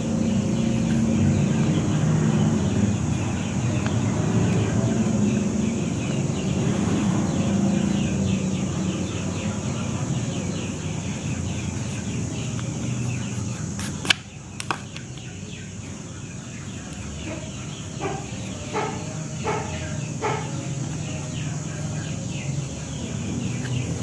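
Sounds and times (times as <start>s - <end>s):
faint birdsong: 0.0s - 24.0s.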